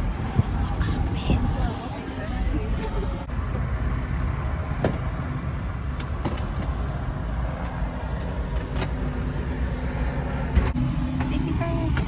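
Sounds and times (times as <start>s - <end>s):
helicopter engine rumble: 0.0s - 12.0s.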